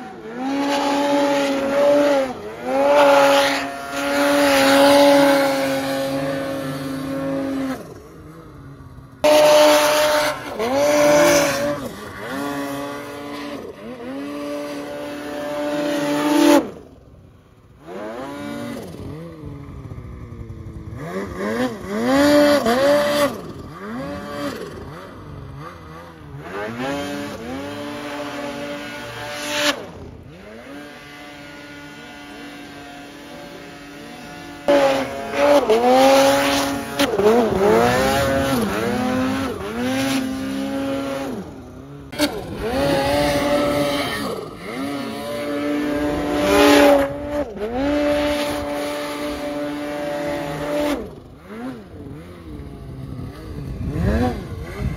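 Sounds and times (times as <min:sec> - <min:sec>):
snowmobile engines revving: 0:00.0 - 0:54.9.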